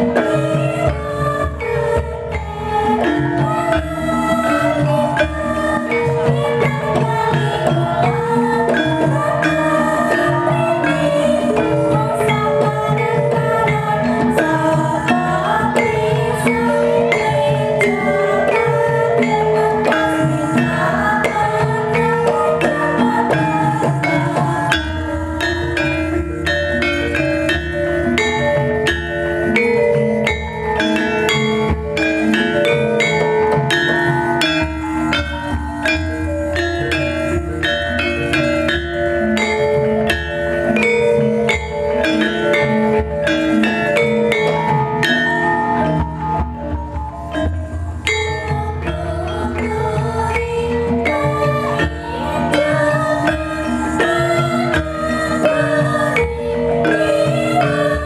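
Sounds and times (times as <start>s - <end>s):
drums: 0.0s - 58.0s
metallophones ringing: 0.0s - 58.0s.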